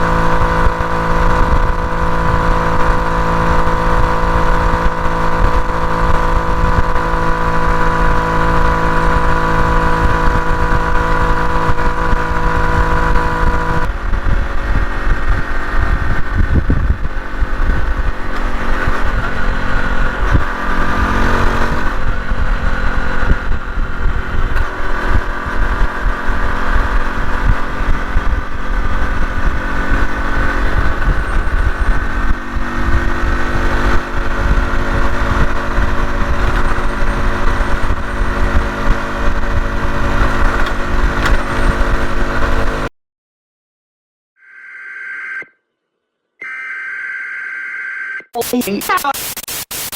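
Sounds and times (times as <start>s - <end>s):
wind buffeting microphone: 0.0s - 42.4s
motorcycle engine running: 0.0s - 42.9s.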